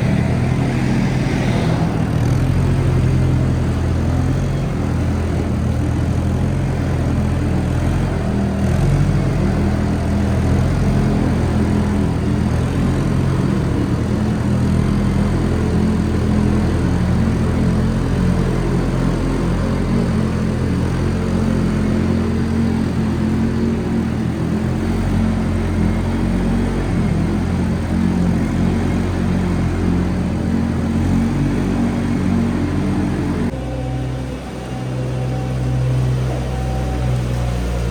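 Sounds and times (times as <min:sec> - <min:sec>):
farm machine engine humming: 0:00.0 - 0:37.9.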